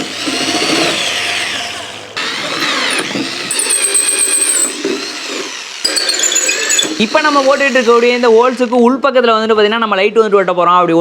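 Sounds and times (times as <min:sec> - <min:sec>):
hole saw cutting plywood: 0:00.0 - 0:08.8
power drill whine: 0:00.0 - 0:08.9.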